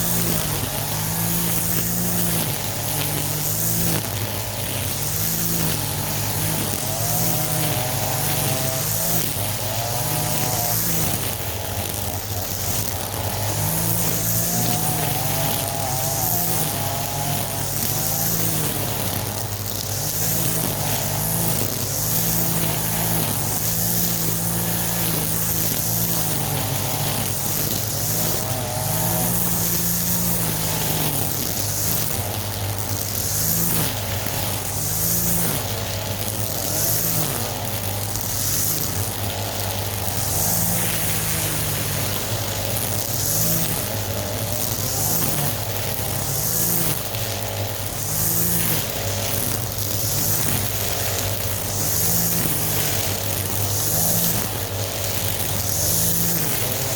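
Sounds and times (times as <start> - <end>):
lawn mower engine cutting grass: 0.0 - 56.9.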